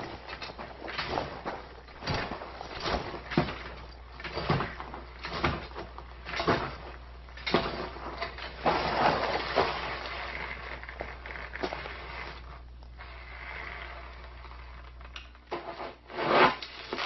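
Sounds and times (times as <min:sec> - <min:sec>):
slow footsteps: 0:00.0 - 0:15.0.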